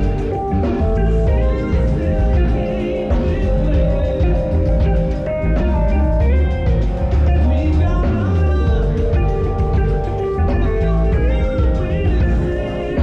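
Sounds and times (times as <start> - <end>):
band playing rock music: 0.0 - 13.0.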